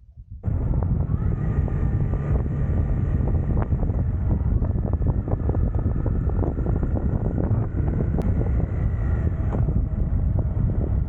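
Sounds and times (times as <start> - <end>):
wind buffeting on microphone: 0.0 - 11.0
motorcycle engine running: 0.4 - 11.0.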